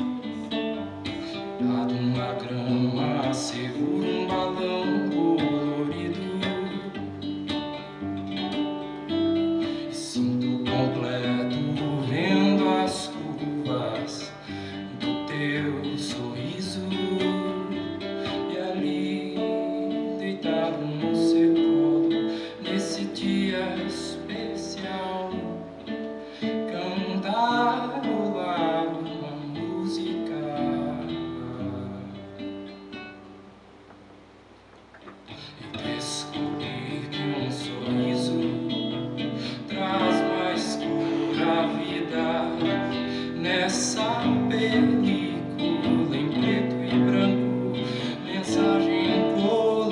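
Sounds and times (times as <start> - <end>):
acoustic guitar music: 0.0 - 49.9.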